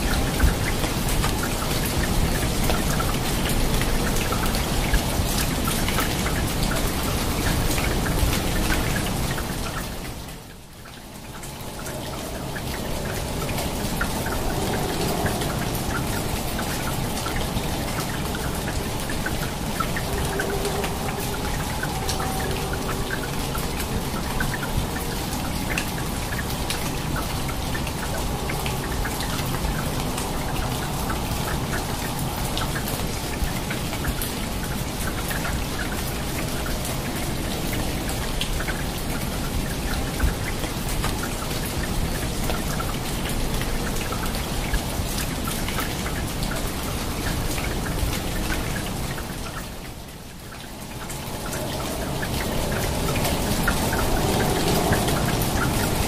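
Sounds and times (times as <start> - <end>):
heavy rain on foliage: 0.0 - 56.0.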